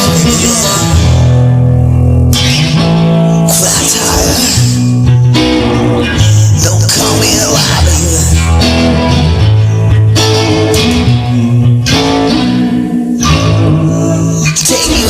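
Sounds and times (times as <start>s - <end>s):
bass line: 0.0s - 15.0s
rock guitars playing chords: 0.0s - 15.0s.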